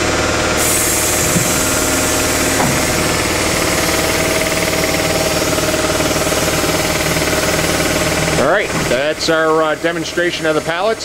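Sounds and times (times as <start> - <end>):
air compressor pounding: 0.0 - 11.0.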